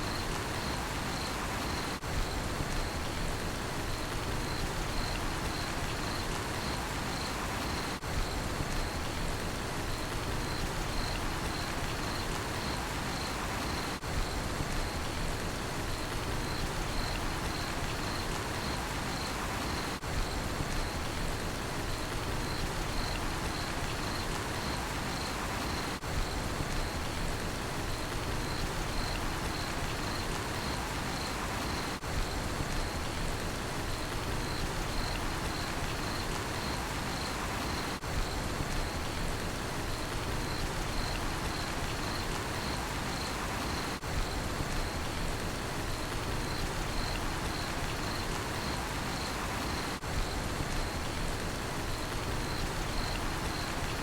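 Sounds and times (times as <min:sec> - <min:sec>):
crickets chirping: 0:00.0 - 0:54.0
steady rain falling: 0:00.0 - 0:54.0.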